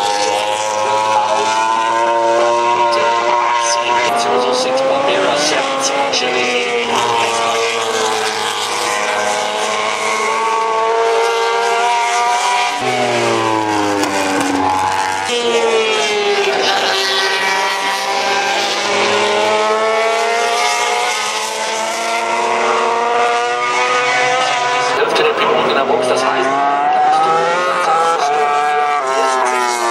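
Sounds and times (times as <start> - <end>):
racing motorcycle engines: 0.0 - 29.9.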